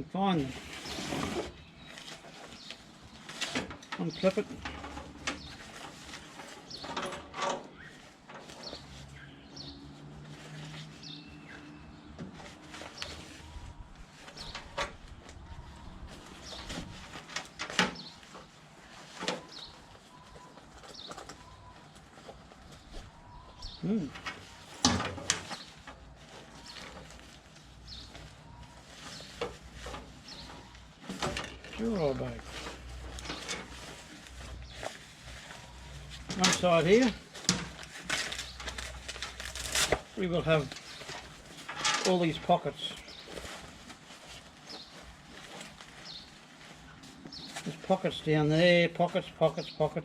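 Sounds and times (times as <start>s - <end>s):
birds chirping: 0.0s - 50.0s
bag rustling: 0.3s - 48.7s.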